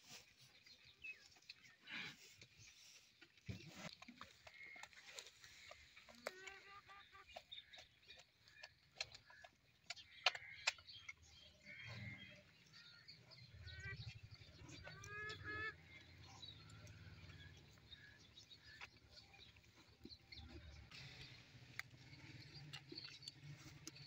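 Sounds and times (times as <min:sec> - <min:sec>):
farmyard animal calls: 0:00.0 - 0:24.0.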